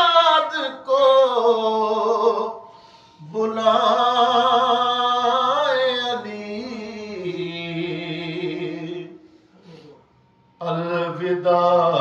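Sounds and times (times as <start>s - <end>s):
man chanting: 0.0s - 2.6s, 3.2s - 10.0s, 10.6s - 12.0s.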